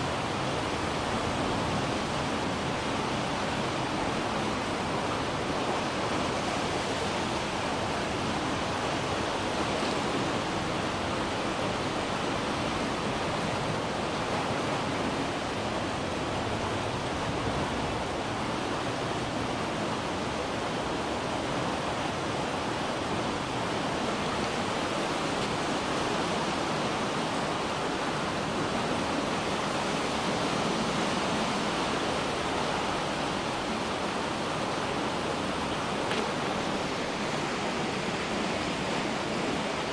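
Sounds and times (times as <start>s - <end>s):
floodwater rushing down a creek: 0.0s - 39.9s.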